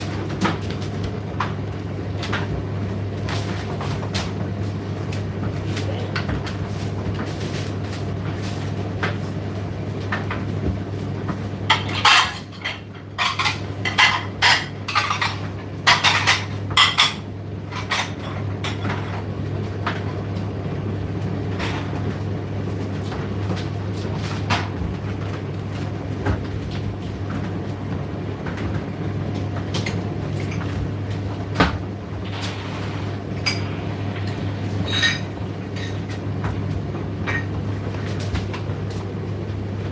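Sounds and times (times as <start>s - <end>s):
tumble dryer humming and ticking: 0.0s - 12.0s, 12.6s - 39.9s.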